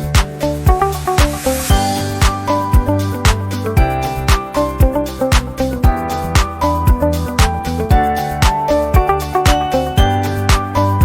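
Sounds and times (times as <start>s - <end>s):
funk music with kick drum: 0.0s - 11.0s.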